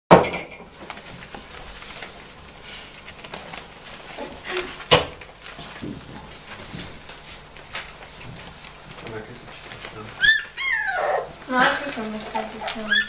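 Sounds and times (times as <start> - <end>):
puppies scuffling on a blanket: 0.7 - 13.0.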